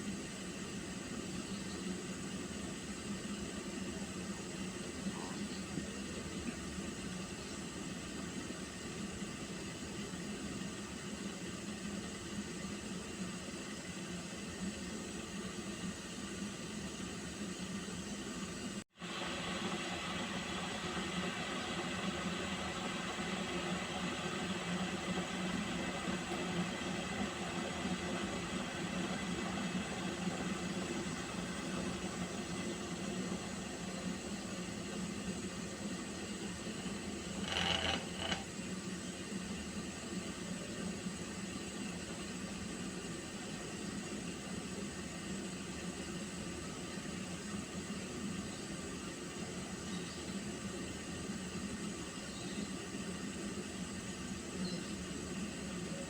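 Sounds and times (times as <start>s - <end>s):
pot of water heating: 0.0s - 56.0s.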